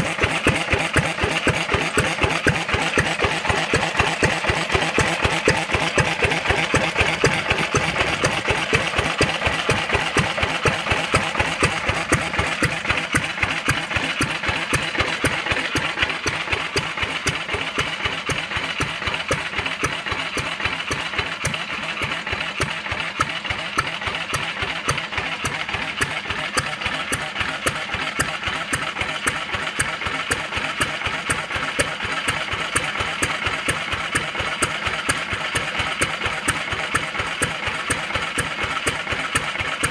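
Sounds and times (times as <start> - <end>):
kerosene engine running: 0.0 - 39.9.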